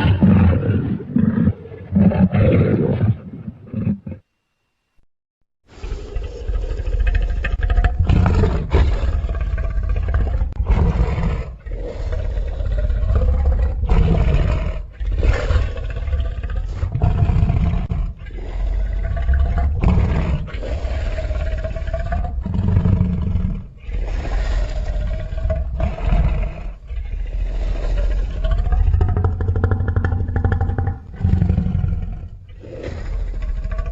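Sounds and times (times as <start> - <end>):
deep monster roars and growls: 0.0 - 4.0, 5.8 - 33.9.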